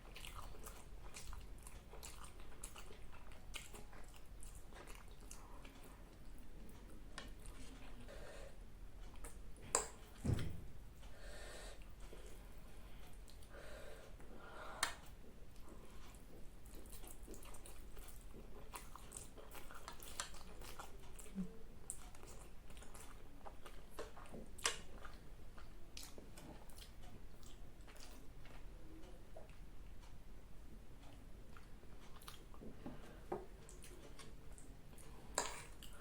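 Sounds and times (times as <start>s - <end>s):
person chewing food: 0.0s - 10.3s, 11.0s - 30.2s, 31.0s - 36.0s.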